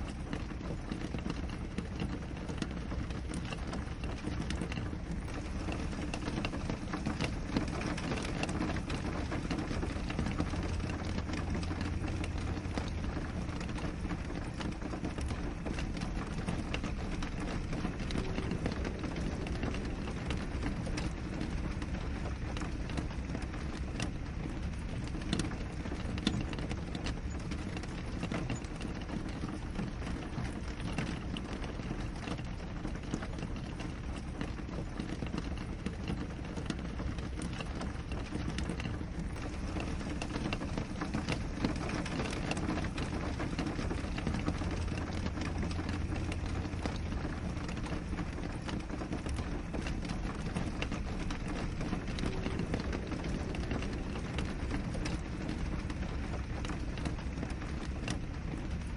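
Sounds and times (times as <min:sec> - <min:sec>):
rain on a window pane: 0:00.0 - 0:58.9
raindrop ticks: 0:00.0 - 0:58.9.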